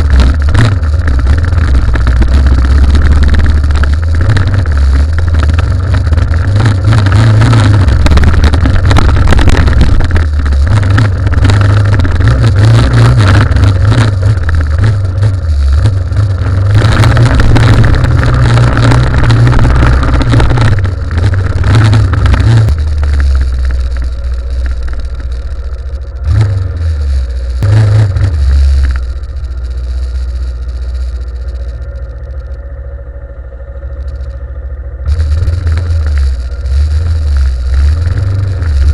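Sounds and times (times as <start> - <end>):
wind noise: 0.0 - 32.5, 35.0 - 38.9
motorcycle engine running: 0.0 - 38.9.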